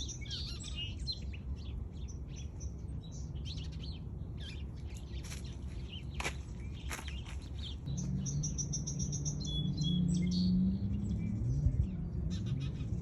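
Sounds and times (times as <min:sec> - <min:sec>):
low wavering hum: 0:00.0 - 0:13.0
small birds chirping: 0:00.0 - 0:13.0.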